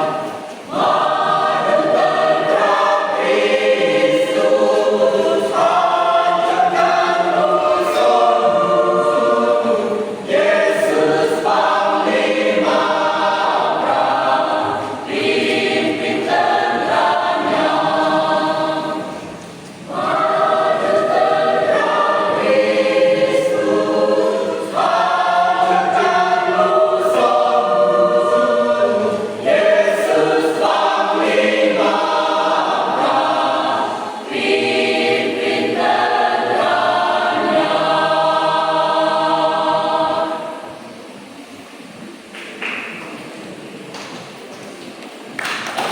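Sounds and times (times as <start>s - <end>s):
congregation singing a hymn: 0.0s - 44.2s.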